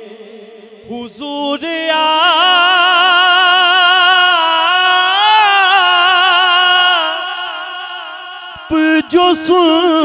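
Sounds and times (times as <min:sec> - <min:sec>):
man singing unaccompanied: 0:00.0 - 0:07.7, 0:08.5 - 0:10.0.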